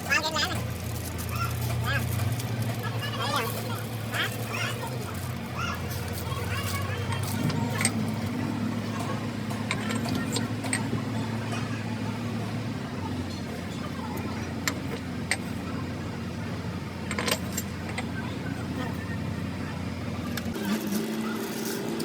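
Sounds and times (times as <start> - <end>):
low engine-like hum: 0.0 - 22.0.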